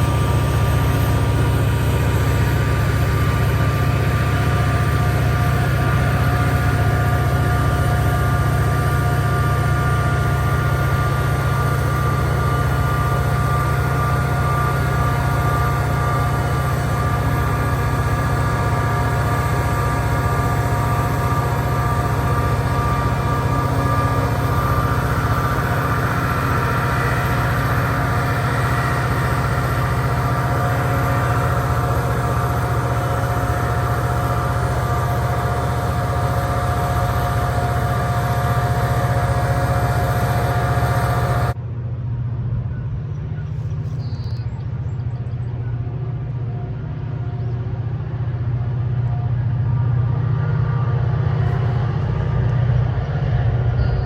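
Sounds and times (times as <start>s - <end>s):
diesel locomotive engine drone: 0.0s - 54.0s
high turbo whine: 0.0s - 54.0s.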